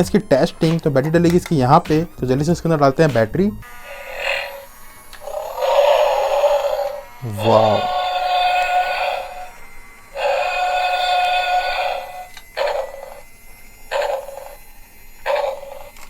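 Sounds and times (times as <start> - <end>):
buzzy electronic tones: 0.0 - 16.0.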